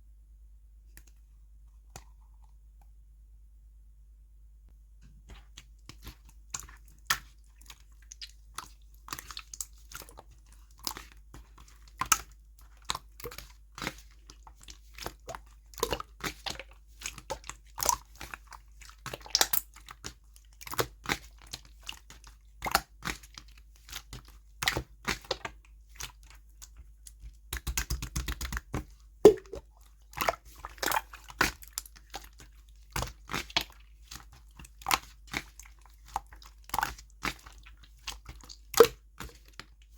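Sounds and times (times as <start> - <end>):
slime squished by hand: 5.2 - 39.9.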